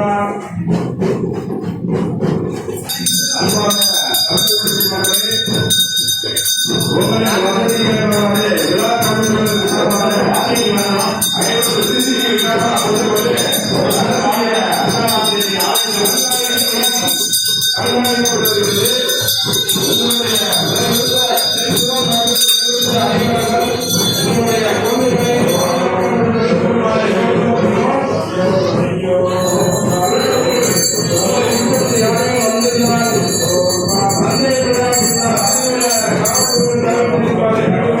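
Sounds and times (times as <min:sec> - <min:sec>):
music: 0:00.0 - 0:38.0
jingling beat: 0:00.4 - 0:27.7, 0:28.5 - 0:37.8.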